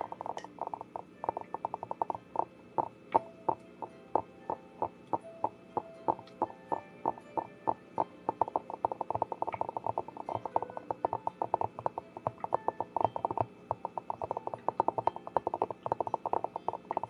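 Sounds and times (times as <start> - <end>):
rapid tapping on a container: 0.0 - 17.0.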